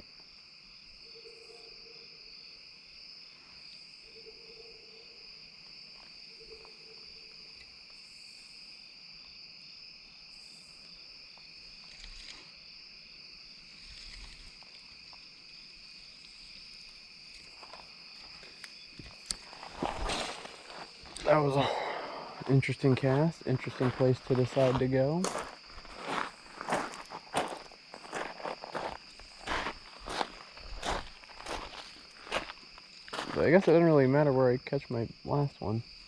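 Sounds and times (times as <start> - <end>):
crickets and insects trilling: 0.0 - 36.0.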